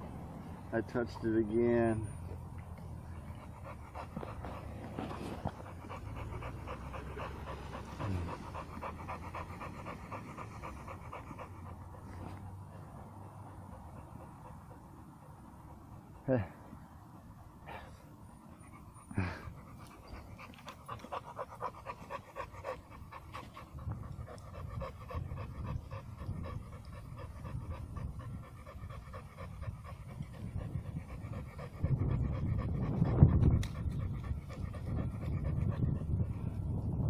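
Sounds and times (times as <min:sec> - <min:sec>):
dog panting: 0:00.2 - 0:37.0.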